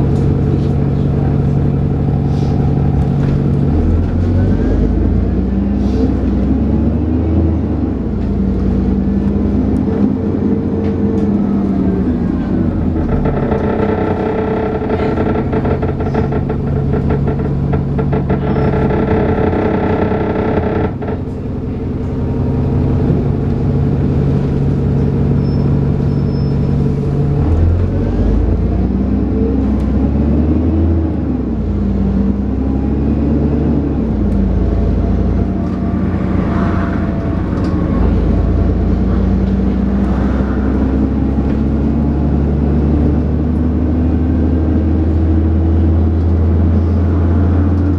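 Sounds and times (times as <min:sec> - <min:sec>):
bus diesel engine whine: 0:00.0 - 0:47.9.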